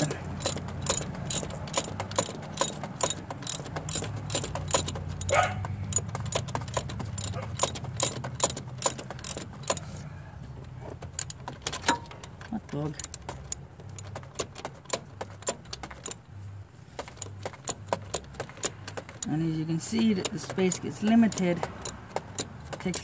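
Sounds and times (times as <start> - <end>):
hand ratchet clicking: 0.0 - 9.9, 11.1 - 11.9, 12.9 - 16.2, 17.0 - 23.0.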